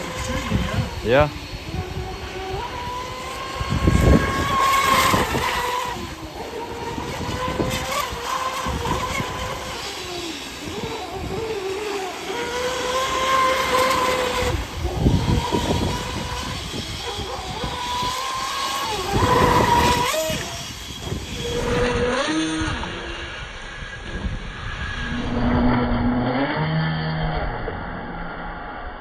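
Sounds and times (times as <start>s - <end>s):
wind buffeting microphone: 0.0s - 26.2s
high whine of electric boat motor: 0.0s - 29.0s.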